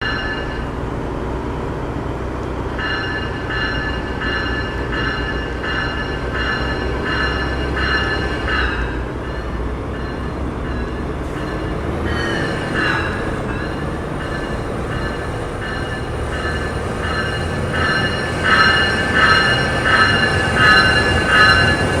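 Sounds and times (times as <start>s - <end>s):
train low rumble: 0.0s - 22.0s
high squeal: 3.0s - 22.0s.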